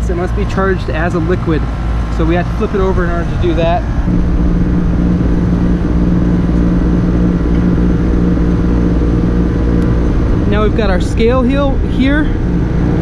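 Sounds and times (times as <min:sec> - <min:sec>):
air conditioner compressor hum: 0:00.0 - 0:13.0
fan noise: 0:00.0 - 0:13.0.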